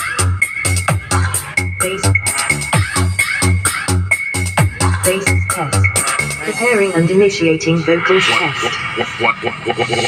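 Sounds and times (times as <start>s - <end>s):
electronic dance music heavy bass: 0.0s - 10.0s.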